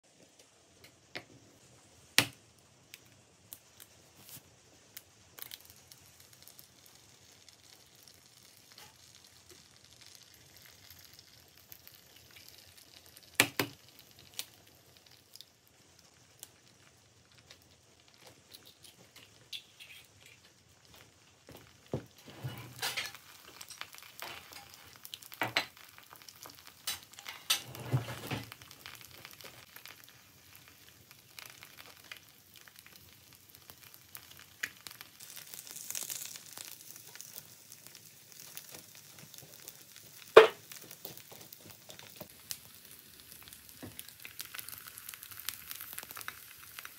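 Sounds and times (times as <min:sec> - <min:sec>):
eggs sizzling in a pan: 0:00.1 - 0:46.9.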